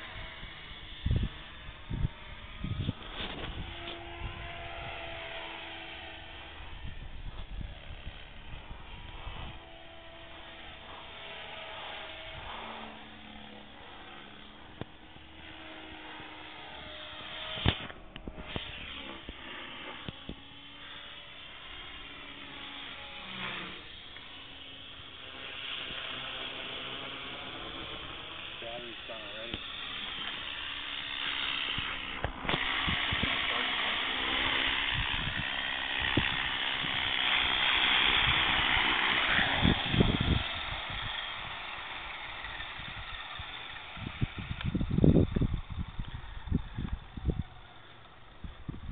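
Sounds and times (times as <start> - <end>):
rc helicopter rotor whine: 0.0 - 48.9.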